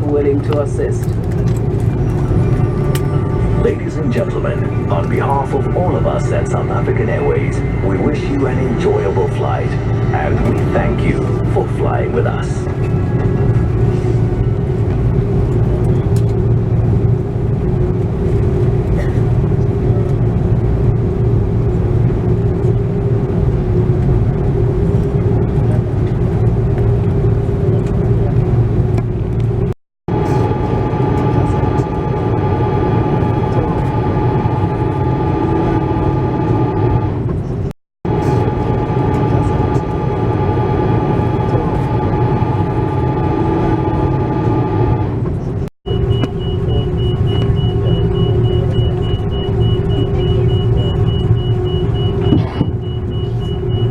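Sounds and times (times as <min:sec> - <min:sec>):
aircraft cabin rumble: 0:00.0 - 0:53.9
high steady whining tones: 0:00.0 - 0:53.9
steady hum: 0:00.0 - 0:53.9.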